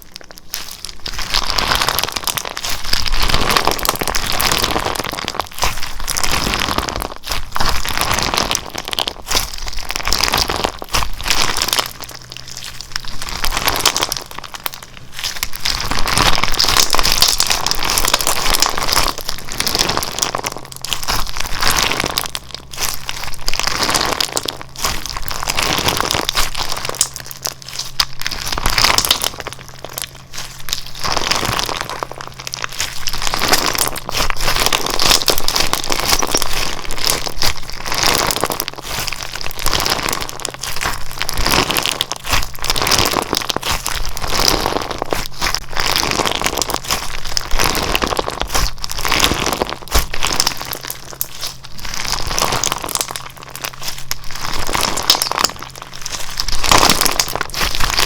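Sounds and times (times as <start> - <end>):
slime squeezed by hands crackling: 0.0 - 58.0.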